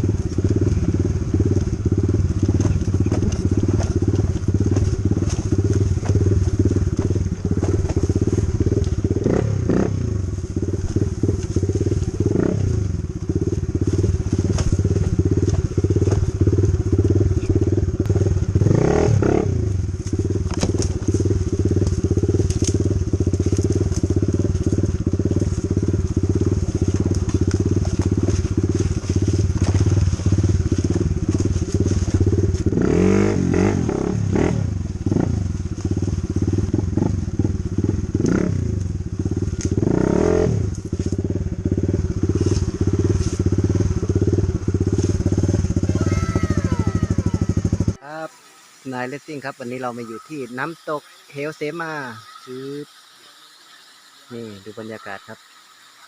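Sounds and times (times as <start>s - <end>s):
dirt bike engine revving: 0.0s - 55.7s.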